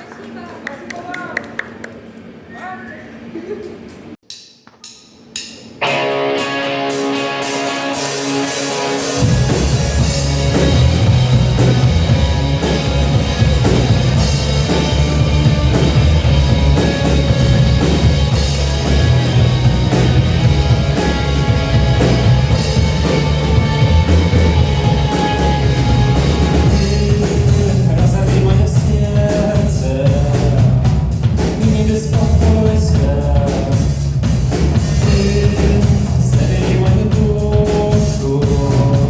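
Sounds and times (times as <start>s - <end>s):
rock song instrumental: 5.2s - 39.0s.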